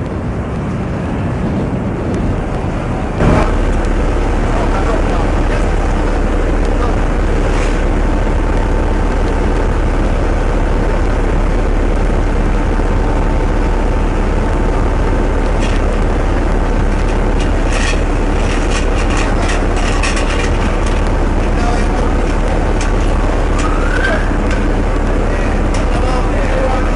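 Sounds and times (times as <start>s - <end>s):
ship low rumble: 0.0s - 26.9s.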